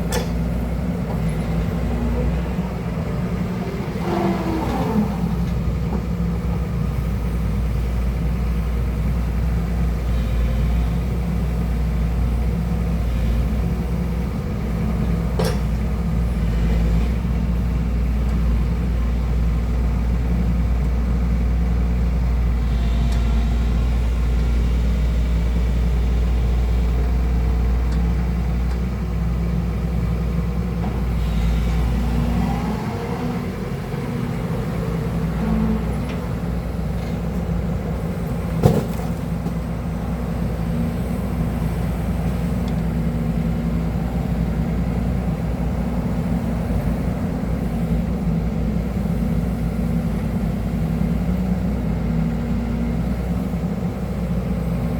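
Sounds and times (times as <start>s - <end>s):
excavator diesel engine rumble: 0.0s - 54.9s.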